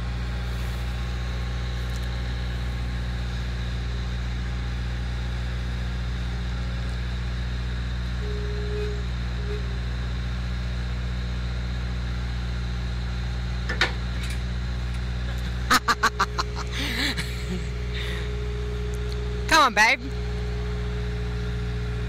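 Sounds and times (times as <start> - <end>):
steady whine: 0.0 - 10.9, 13.6 - 22.0
skid steer engine running: 0.0 - 22.0.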